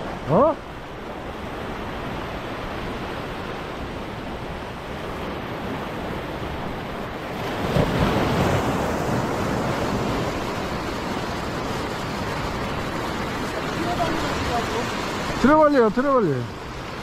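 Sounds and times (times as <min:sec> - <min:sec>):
sea waves foaming over rocks: 0:00.0 - 0:17.0.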